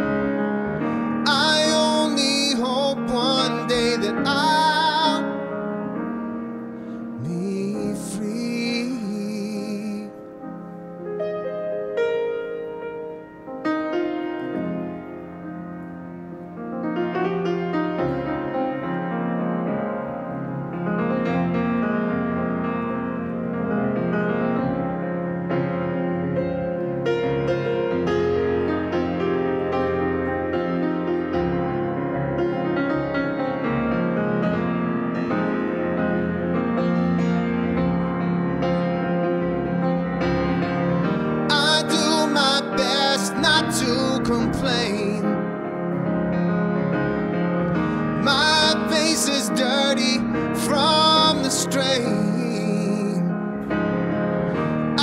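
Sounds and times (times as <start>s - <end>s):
piano chords: 0.0s - 55.0s.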